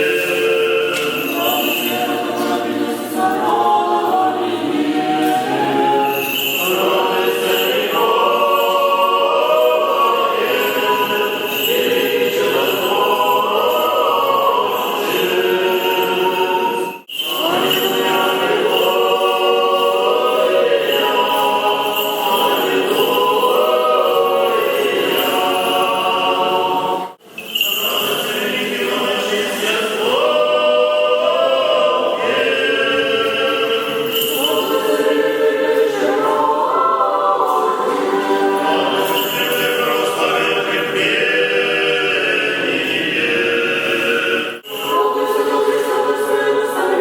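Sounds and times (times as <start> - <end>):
choir singing unaccompanied chant: 0.0 - 47.0.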